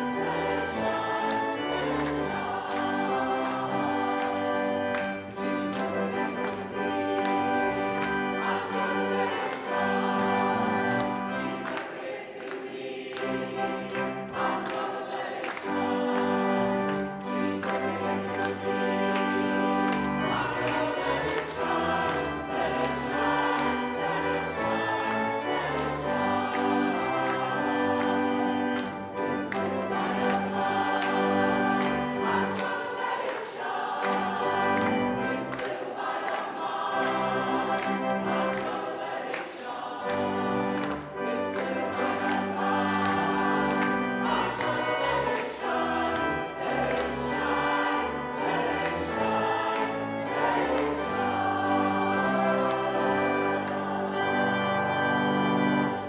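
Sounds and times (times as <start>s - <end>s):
choir singing gospel: 0.0s - 56.0s
hand-clapping: 0.0s - 56.0s
pipe organ: 0.0s - 56.0s.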